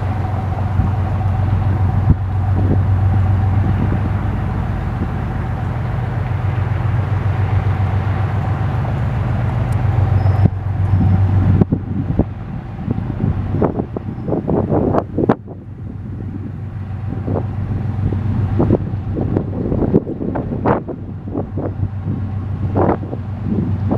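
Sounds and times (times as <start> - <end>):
train engine drone: 0.0 - 23.9.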